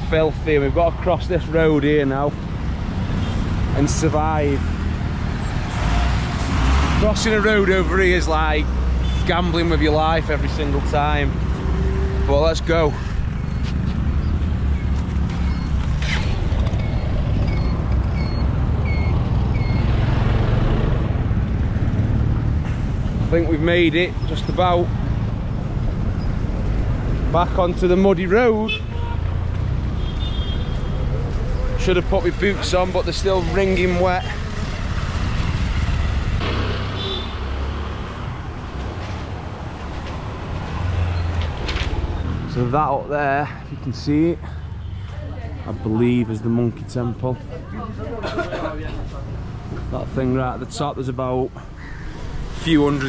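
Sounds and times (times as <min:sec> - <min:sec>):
road traffic rumble: 0:00.0 - 0:53.0
vehicle engines passing: 0:00.0 - 0:53.0.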